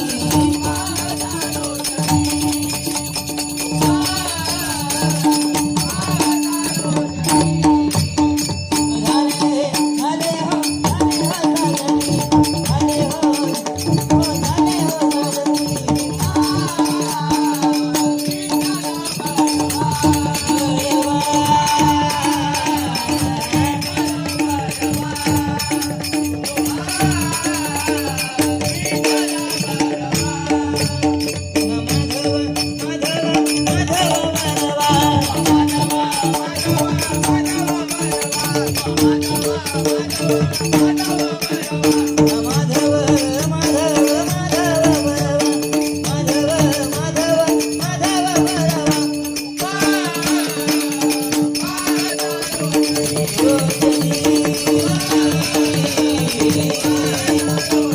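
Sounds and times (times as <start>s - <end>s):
hand drum beat: 0.0s - 57.9s
jingling percussion: 0.0s - 57.9s.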